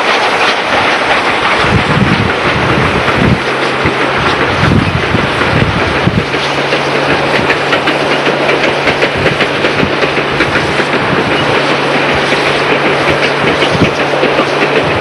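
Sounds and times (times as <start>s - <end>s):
passenger train running: 0.0s - 15.0s
wind noise on microphone: 0.3s - 15.0s.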